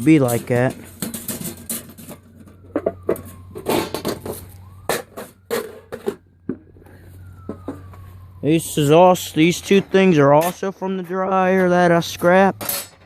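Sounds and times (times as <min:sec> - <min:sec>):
faint siren gliding down: 0:00.0 - 0:12.6.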